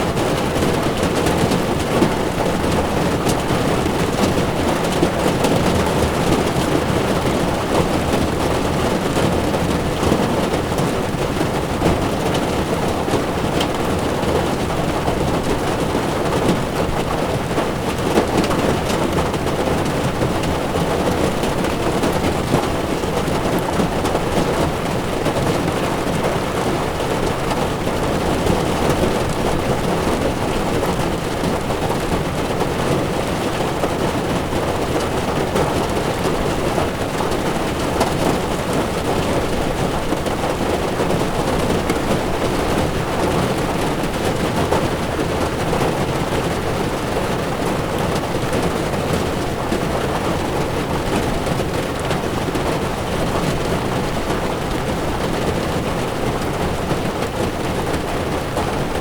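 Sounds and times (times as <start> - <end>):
rain on car windshield: 0.0 - 59.0.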